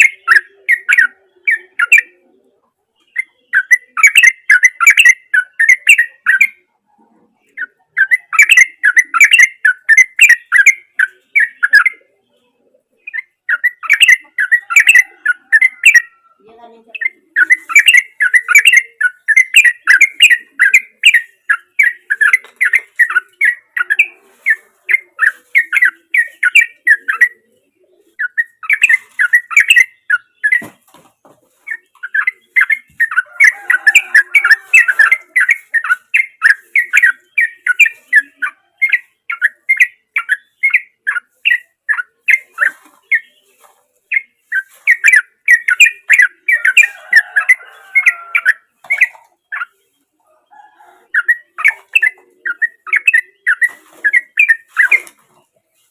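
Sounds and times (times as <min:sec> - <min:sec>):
bird singing chattering song: 0:00.0 - 0:55.9.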